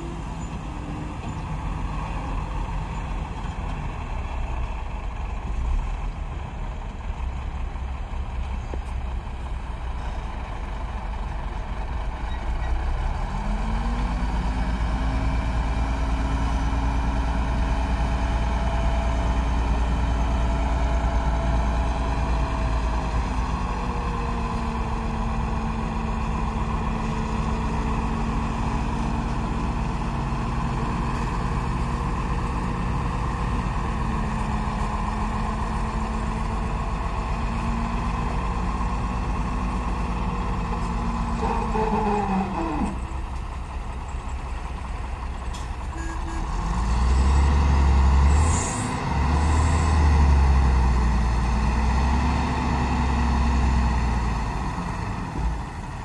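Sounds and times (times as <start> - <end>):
diesel engine rumble: 0.0 - 56.0.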